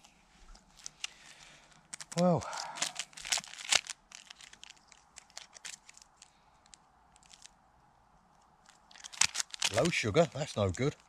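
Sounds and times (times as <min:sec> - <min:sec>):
plastic packaging crinkling: 0:00.0 - 0:07.6, 0:08.3 - 0:11.0.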